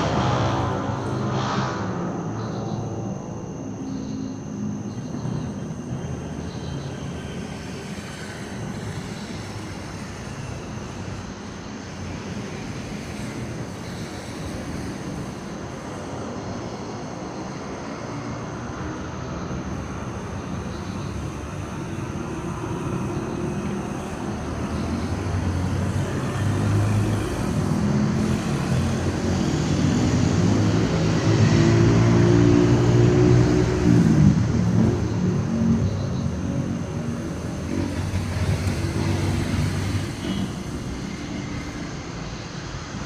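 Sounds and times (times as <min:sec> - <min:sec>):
engine: 0:00.0 - 0:43.0
traffic rumble: 0:00.0 - 0:43.0.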